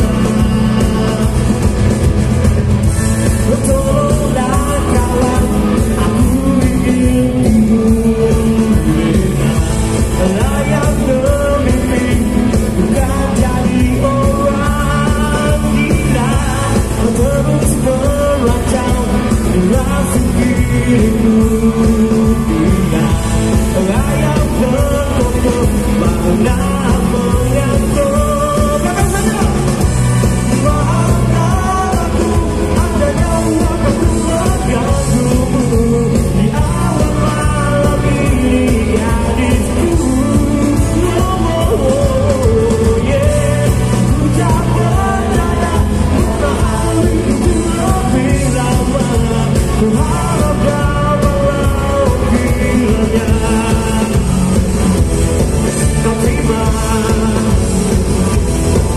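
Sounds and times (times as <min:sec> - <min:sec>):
man singing into microphone: 0:00.0 - 0:02.0, 0:03.0 - 0:58.0
live rock band playing: 0:00.0 - 0:58.9.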